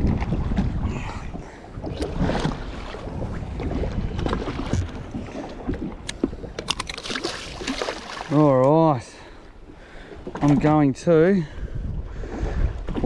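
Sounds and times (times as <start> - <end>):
wind buffeting microphone: 0.0 - 8.4, 10.0 - 13.0
water against boat hull: 0.0 - 13.0.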